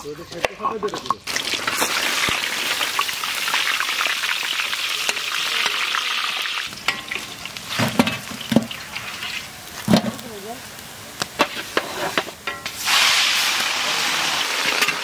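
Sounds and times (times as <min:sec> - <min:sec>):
fish sizzling in hot oil: 0:01.2 - 0:15.0.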